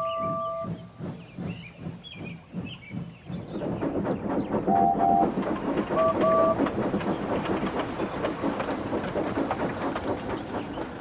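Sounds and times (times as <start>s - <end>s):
train wheels rattling on track: 0.0s - 11.0s.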